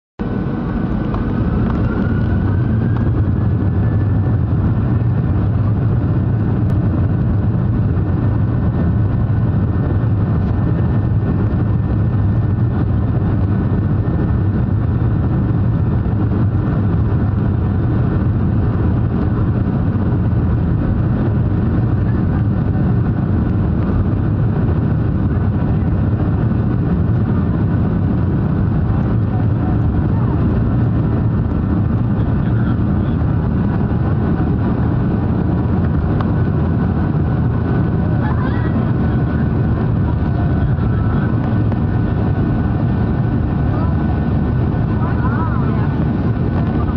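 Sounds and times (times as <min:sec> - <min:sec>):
jet engines droning: 0:00.2 - 0:46.9.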